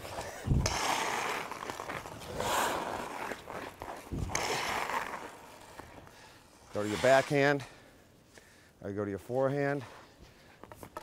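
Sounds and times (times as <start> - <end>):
skate blades scraping ice: 0.0 - 8.0, 9.5 - 11.0.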